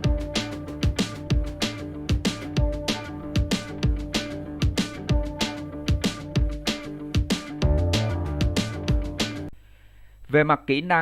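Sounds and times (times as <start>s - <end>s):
instrumental music with sharp beat: 0.0s - 9.6s.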